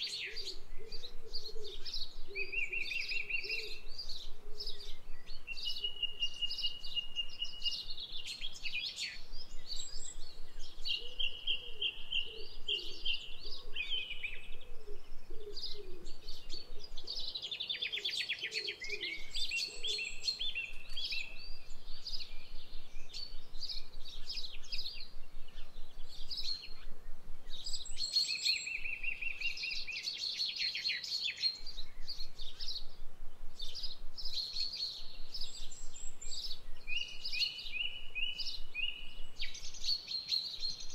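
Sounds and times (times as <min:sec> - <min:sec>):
birds singing and calling: 0:00.0 - 0:40.9
low repeated bird call: 0:00.0 - 0:40.9.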